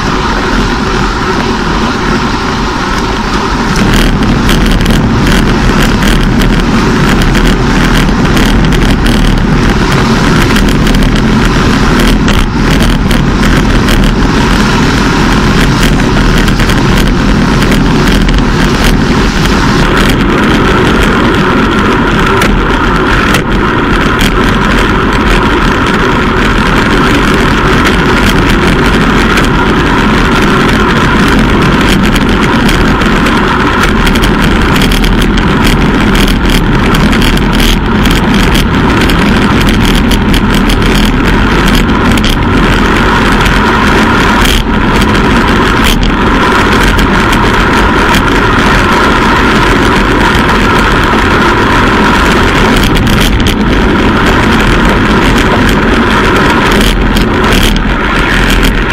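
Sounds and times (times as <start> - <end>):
tyre and road noise: 0.0 - 58.9
wind rushing over microphone: 0.0 - 58.9.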